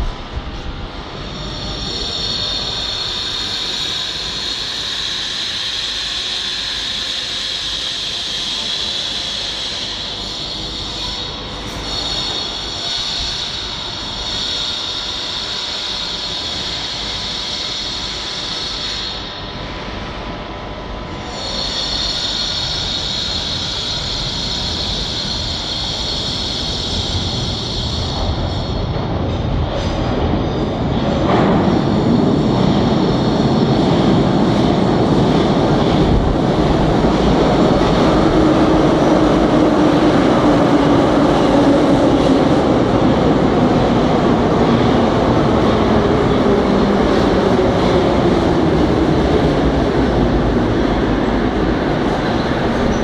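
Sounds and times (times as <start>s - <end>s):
metro train rumbling: 0.0s - 53.0s.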